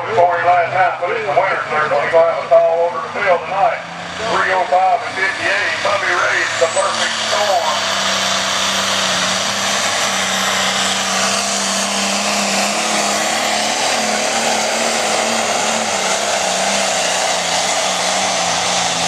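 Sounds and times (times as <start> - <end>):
engine droning at full throttle: 0.0 - 19.0.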